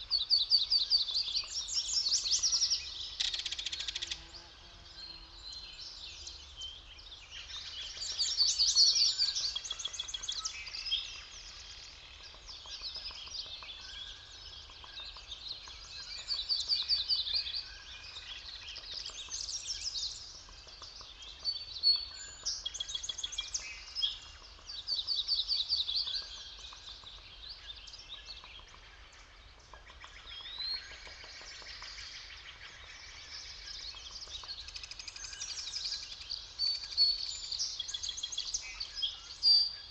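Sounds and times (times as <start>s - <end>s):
birds singing trilled songs: 0.0s - 39.9s
faint low background noise: 0.0s - 39.9s.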